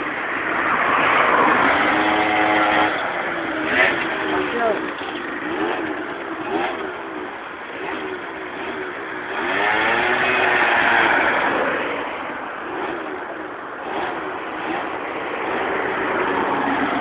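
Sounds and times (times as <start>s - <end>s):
scooter engine revving: 0.0s - 17.0s.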